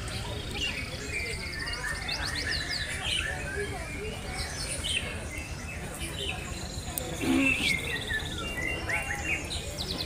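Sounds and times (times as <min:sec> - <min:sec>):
songbirds chirping and trilling: 0:00.0 - 0:10.0.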